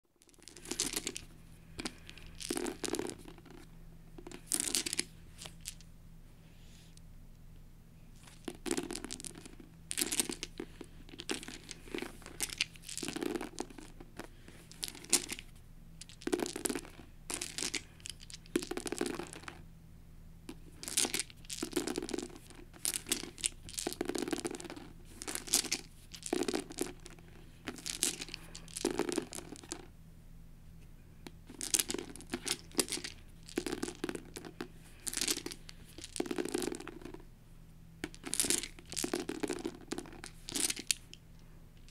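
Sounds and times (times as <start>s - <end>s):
plastic dice clattering: 0.2s - 5.9s, 8.2s - 19.6s, 20.5s - 29.9s, 31.2s - 37.3s, 38.0s - 41.2s.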